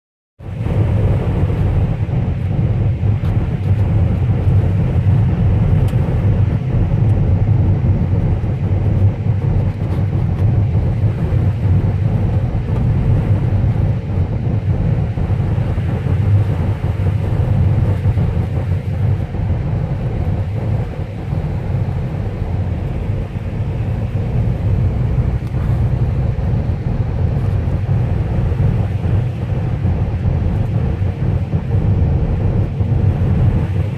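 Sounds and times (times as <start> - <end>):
car driving on wet road: 0.4 - 33.9.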